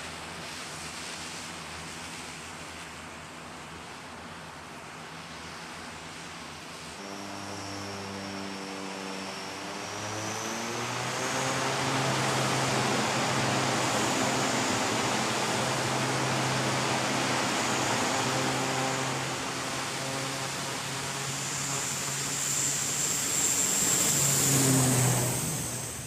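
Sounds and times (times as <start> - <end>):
turboprop engines roaring: 4.3 - 26.0.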